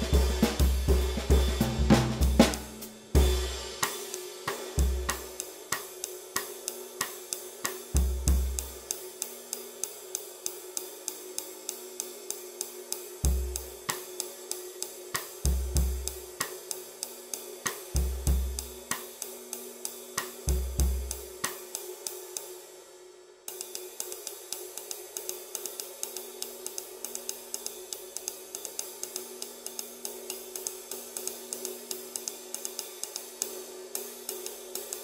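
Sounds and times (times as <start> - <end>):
ride cymbal pinging: 0.0 - 22.7, 23.5 - 35.0.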